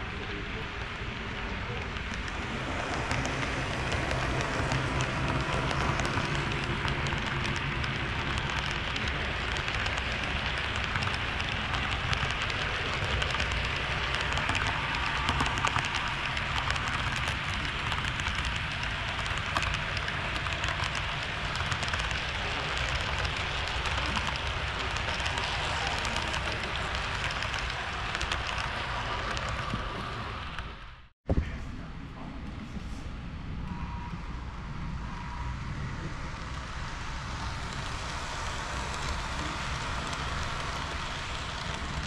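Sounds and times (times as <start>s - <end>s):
model train wheels clattering: 0.0s - 30.8s, 36.4s - 42.0s.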